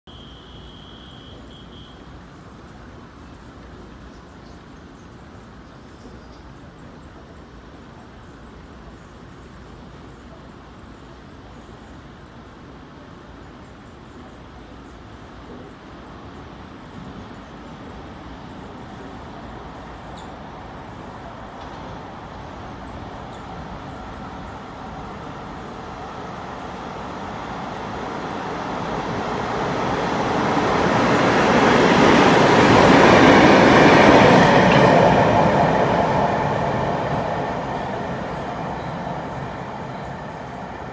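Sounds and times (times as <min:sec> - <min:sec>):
freight train rumble and wheel noise: 0:01.3 - 0:40.9.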